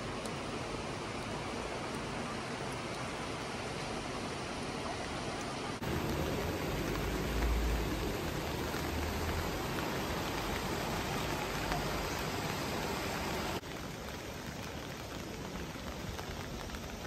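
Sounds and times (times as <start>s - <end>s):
scattered raindrops: 0.0s - 17.0s
steady rain falling: 0.0s - 17.0s.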